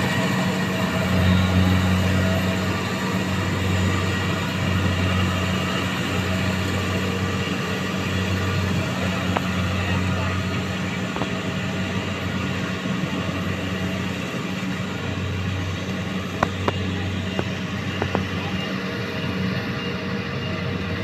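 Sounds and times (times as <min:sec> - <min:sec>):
combine harvester engine hum: 0:00.0 - 0:21.0
harvesting machinery noise: 0:00.0 - 0:21.0.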